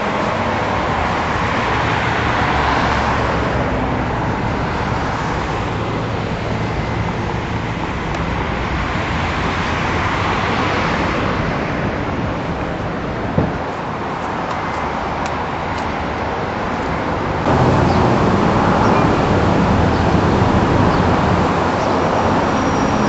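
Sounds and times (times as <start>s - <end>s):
busy road traffic: 0.0s - 23.0s.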